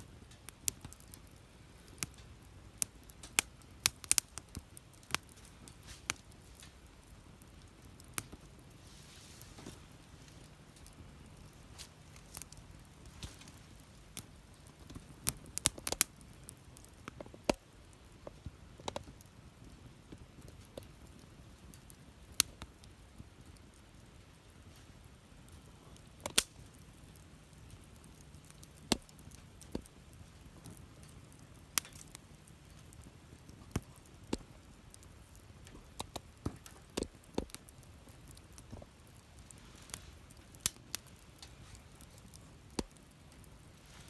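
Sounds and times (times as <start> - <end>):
faint steady hiss: 0.0 - 44.0
wood fire crackling and popping: 0.0 - 44.0.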